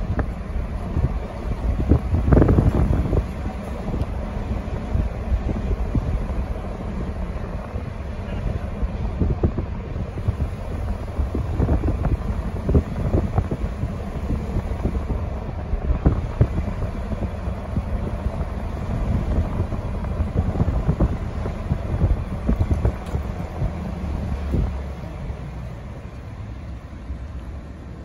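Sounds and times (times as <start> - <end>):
car road rumble: 0.0 - 28.0
wind buffeting microphone: 0.0 - 28.0.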